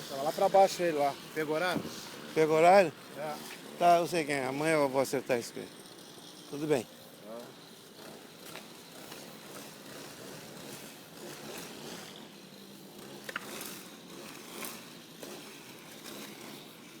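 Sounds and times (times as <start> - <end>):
street-cleaning machines humming: 0.0 - 17.0.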